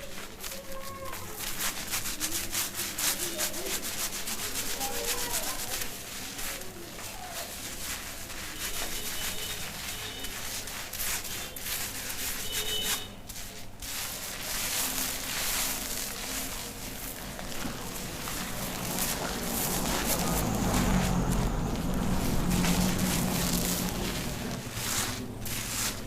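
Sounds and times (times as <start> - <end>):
fingers scratching lathered scalp: 0.0 - 26.0.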